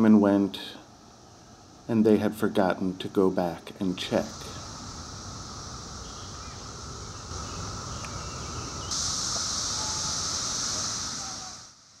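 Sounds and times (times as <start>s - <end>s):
cicadas droning: 0.0s - 12.0s
high hiss: 0.0s - 12.0s.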